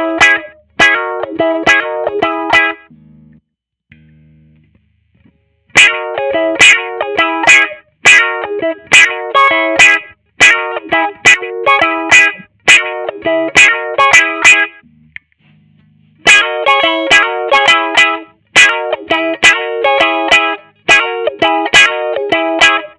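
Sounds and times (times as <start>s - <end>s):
electric guitar strumming chords: 0.0s - 4.7s, 5.7s - 14.8s, 16.2s - 22.9s.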